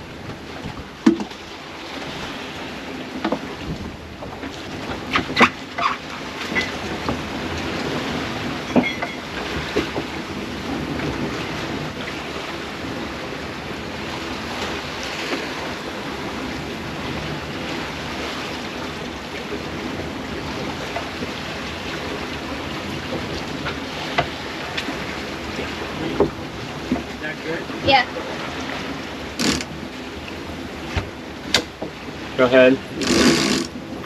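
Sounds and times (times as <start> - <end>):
wind and sea rushing: 0.0 - 34.0
wind buffeting microphone: 0.0 - 34.0.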